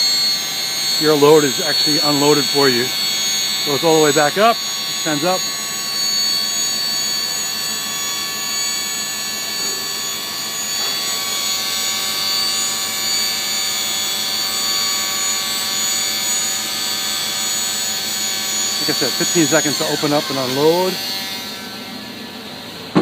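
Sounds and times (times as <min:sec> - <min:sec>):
hydraulic pump whining: 0:00.0 - 0:23.0.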